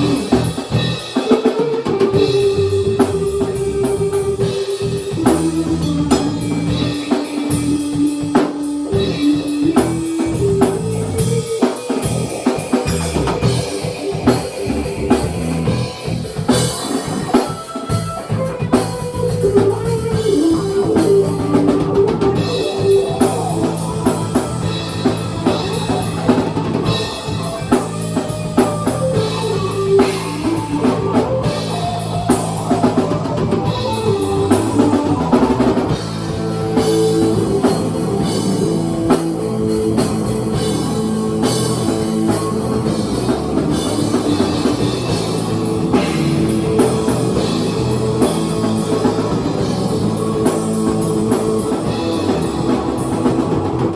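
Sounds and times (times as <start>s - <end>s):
drum kit beat: 0.0s - 53.9s
guitar playing: 0.0s - 53.9s.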